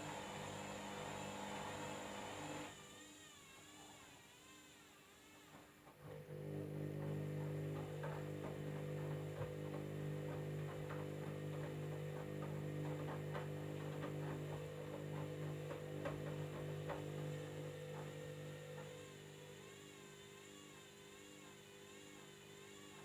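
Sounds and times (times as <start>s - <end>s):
washing machine motor hum: 0.0s - 3.0s, 5.9s - 23.0s.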